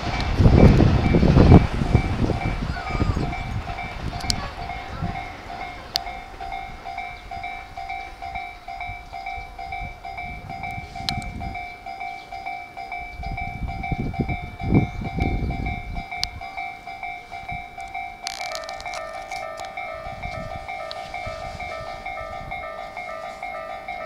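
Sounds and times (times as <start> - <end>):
level crossing bell ringing: 0.0 - 24.0
passing train rumble: 0.0 - 24.0.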